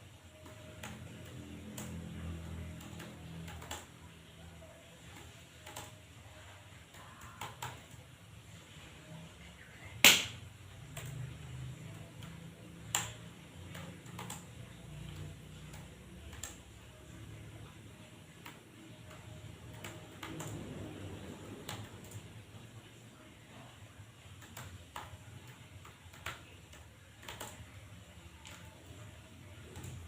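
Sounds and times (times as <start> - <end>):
faint low hum: 0.0 - 30.0
keyboard and mouse clicks: 0.3 - 8.1, 9.6 - 22.7, 23.5 - 30.0.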